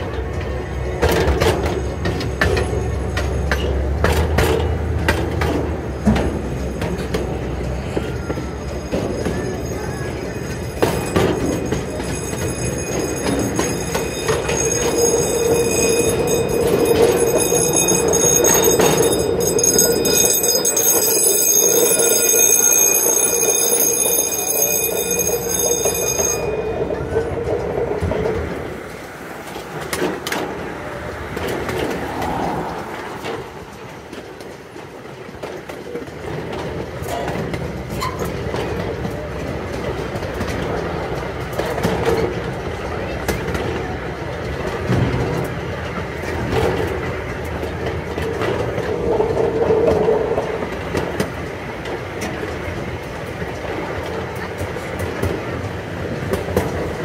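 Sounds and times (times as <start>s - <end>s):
miniature train rumbling on track: 0.0s - 57.0s.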